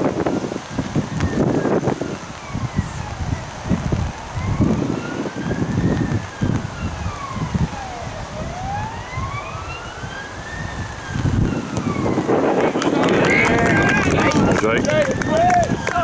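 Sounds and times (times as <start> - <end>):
siren wailing: 0.0 - 16.0
wind buffeting microphone: 0.0 - 16.0.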